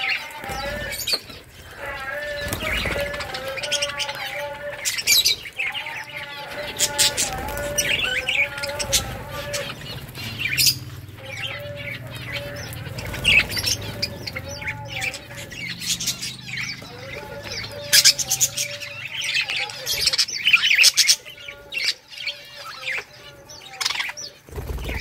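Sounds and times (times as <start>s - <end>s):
budgerigars chirping and chattering: 0.0s - 25.0s.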